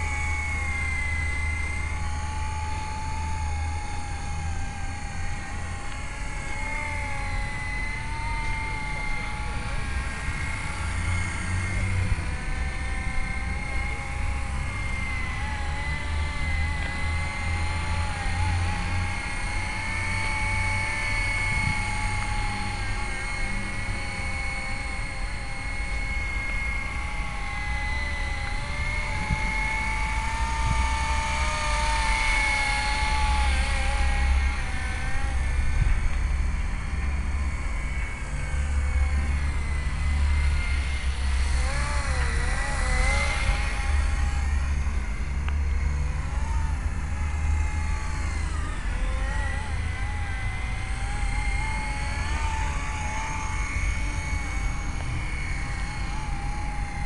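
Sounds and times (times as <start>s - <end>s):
toy helicopter motor whine: 0.0s - 57.0s.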